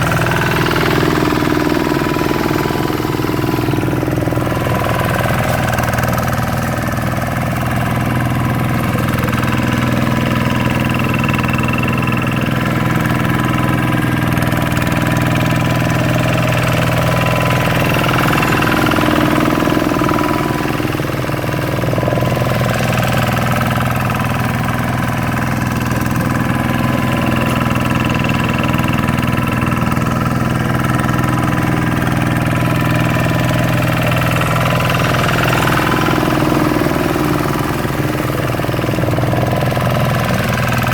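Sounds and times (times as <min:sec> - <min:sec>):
single-cylinder diesel engine running: 0:00.0 - 0:40.9.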